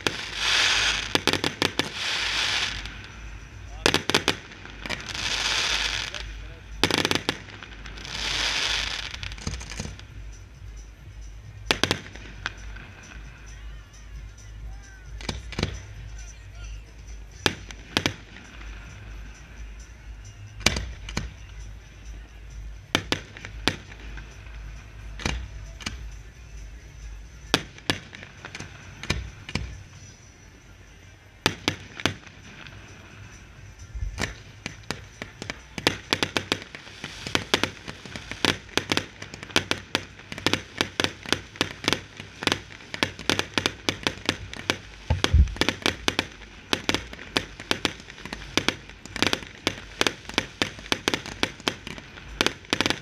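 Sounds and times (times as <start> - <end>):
fireworks bangs: 0.0 - 10.4, 11.6 - 13.5, 14.8 - 16.7, 17.3 - 19.6, 22.8 - 30.6, 31.4 - 53.0
rapid crackle of fireworks: 0.0 - 53.0.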